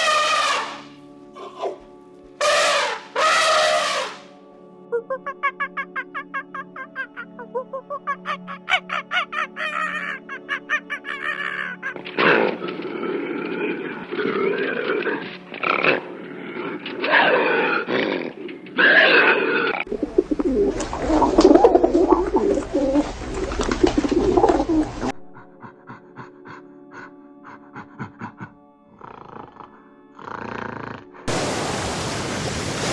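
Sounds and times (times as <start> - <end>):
background music: 0.0 - 31.3.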